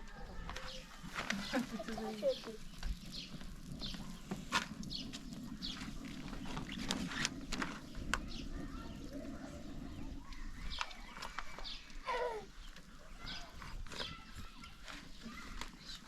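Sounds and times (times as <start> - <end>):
animals and birds chirping: 0.0 - 16.0.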